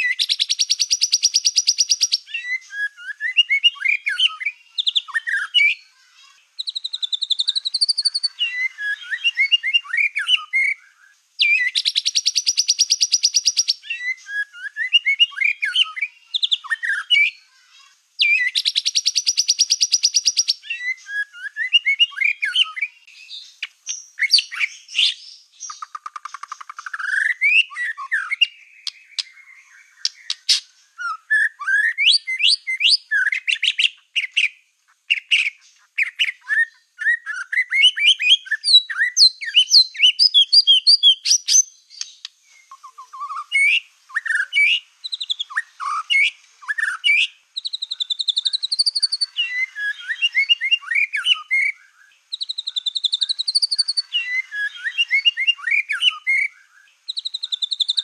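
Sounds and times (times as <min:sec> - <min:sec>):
bird whistling and chattering: 0:00.0 - 0:05.8, 0:06.6 - 0:17.4, 0:18.2 - 0:56.5, 0:57.1 - 0:58.0
bird song with buzzing trills: 0:00.0 - 0:58.0.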